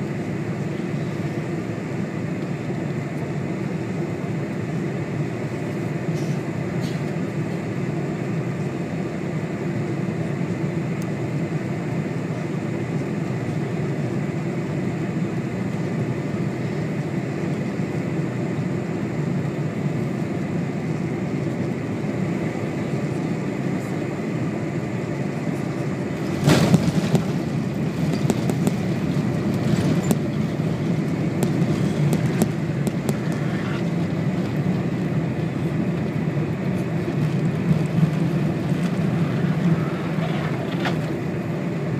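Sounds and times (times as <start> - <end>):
jet engines and airflow rushing: 0.0 - 41.9
runway rumble with rattling: 0.0 - 41.9.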